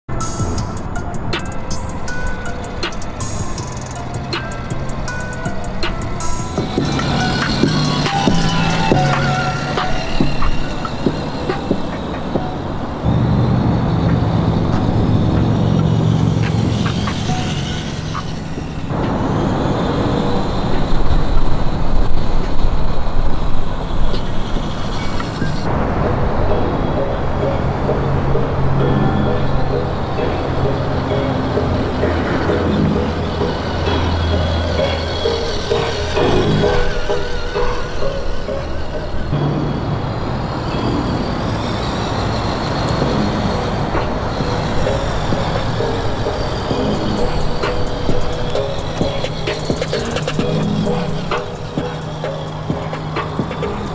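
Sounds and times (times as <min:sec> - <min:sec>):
simulated truck engine rumble: 0:00.0 - 0:53.9.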